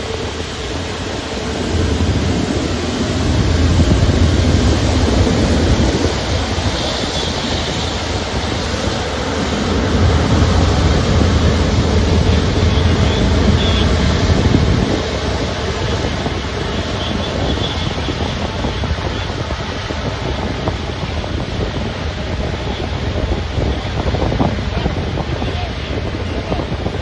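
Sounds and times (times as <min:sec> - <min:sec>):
jet engines rushing and rumbling: 0:00.0 - 0:27.0.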